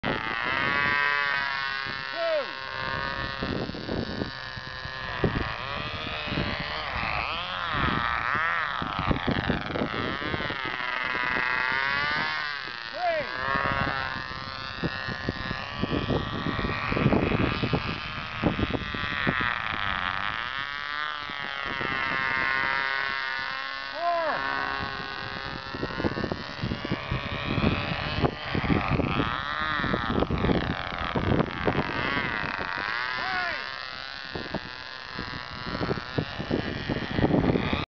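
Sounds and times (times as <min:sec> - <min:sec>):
model airplane engine droning: 0:00.0 - 0:37.9.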